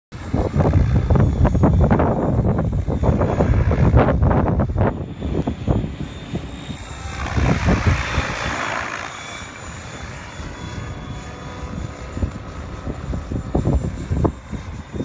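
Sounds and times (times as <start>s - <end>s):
model helicopter rotor whir: 0.2s - 15.0s.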